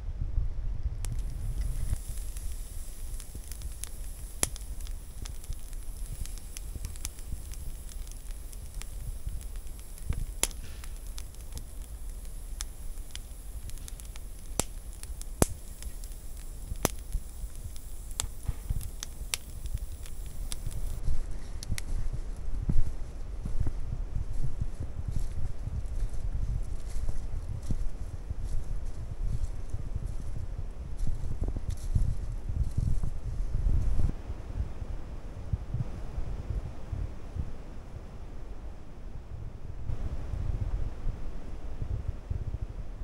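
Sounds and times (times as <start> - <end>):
wood fire crackling: 0.8 - 36.0.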